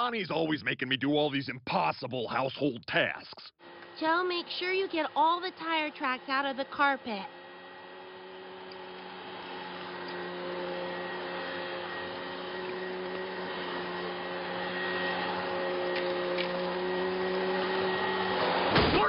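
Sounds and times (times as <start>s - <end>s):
vacuum cleaner running: 3.6s - 19.0s.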